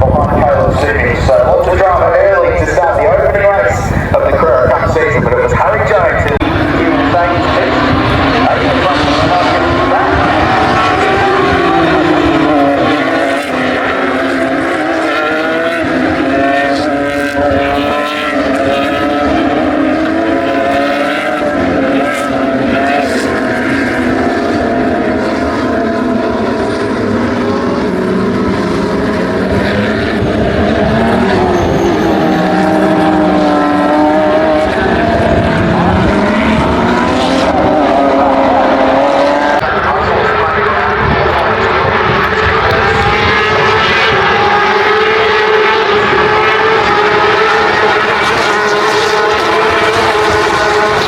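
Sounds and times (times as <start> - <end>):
racing car engines at high revs: 0.0 - 51.0.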